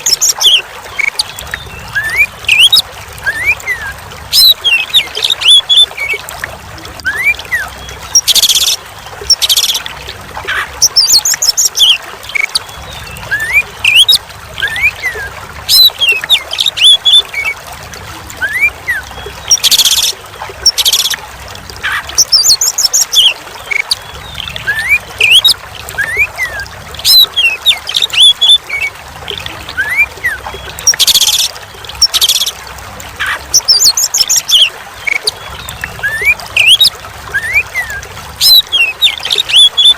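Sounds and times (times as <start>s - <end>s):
bird singing and calling: 0.0s - 6.2s, 7.0s - 17.6s, 18.4s - 21.2s, 21.8s - 32.6s, 33.2s - 39.9s
running water trickling: 0.0s - 39.9s.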